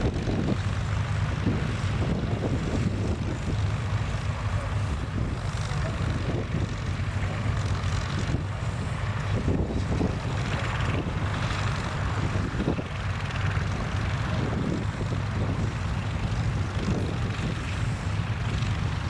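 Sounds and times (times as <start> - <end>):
tractor engine running: 0.0 - 19.0
wind buffeting microphone: 0.0 - 19.0.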